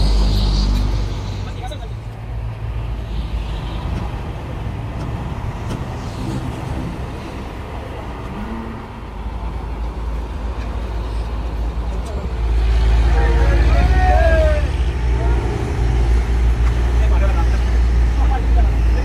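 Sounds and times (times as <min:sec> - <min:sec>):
diesel engine low drone: 0:00.0 - 0:19.0.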